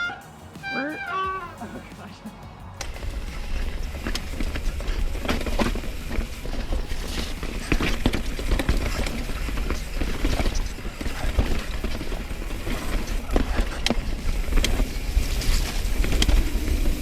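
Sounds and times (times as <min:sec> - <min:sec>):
bike frame rattling and knocking: 0:02.8 - 0:17.0.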